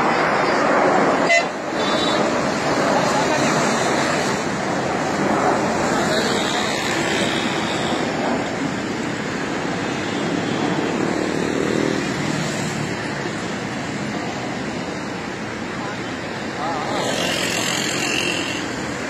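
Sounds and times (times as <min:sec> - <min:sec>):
jet aircraft roaring past: 0:00.0 - 0:19.0.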